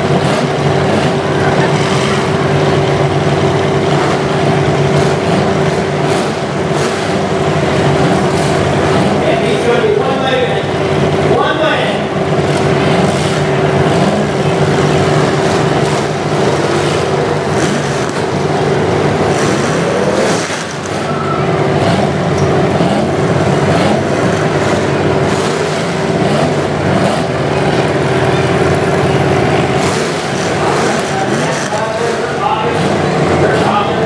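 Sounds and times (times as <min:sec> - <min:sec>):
car engines revving: 0:00.0 - 0:34.0
steady engine drone: 0:00.0 - 0:34.0.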